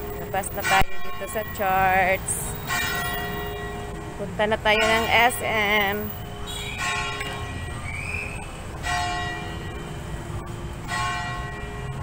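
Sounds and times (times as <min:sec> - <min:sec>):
church bell tolling: 0:00.0 - 0:04.2, 0:04.8 - 0:07.8, 0:08.7 - 0:12.0
street traffic hum: 0:00.0 - 0:12.0.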